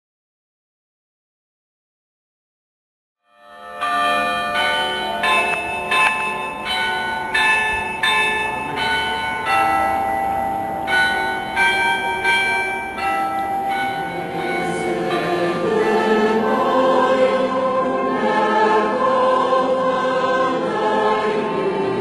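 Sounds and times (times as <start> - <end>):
church bells ringing a tune: 3.2 - 22.0.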